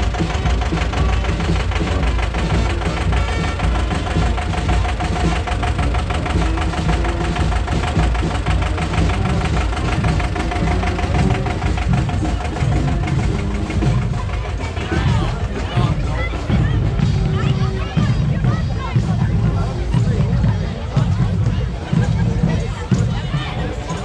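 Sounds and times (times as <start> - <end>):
tractor diesel engine chugging: 0.0 - 24.0.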